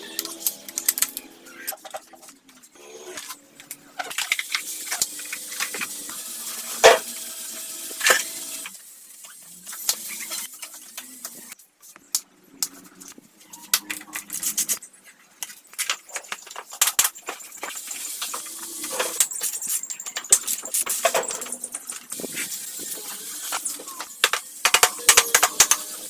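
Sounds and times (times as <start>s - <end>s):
hand tools and metal clinking: 0.0s - 26.0s.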